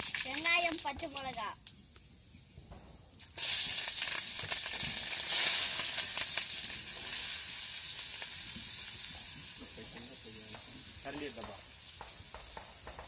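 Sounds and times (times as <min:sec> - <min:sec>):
onions sizzling in hot oil: 0:00.0 - 0:01.4, 0:03.2 - 0:13.0
small crackles of frying: 0:00.0 - 0:02.1, 0:03.1 - 0:13.0.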